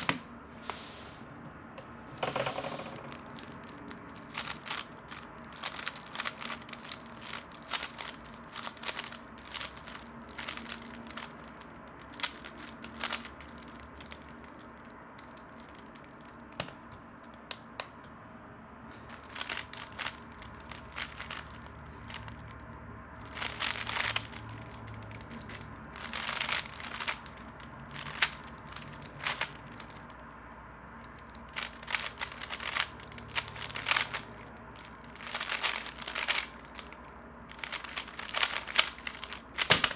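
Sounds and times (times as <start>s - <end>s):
puzzle cube clicking turns: 2.2s - 18.0s, 19.1s - 22.6s, 23.2s - 30.2s, 31.1s - 39.9s.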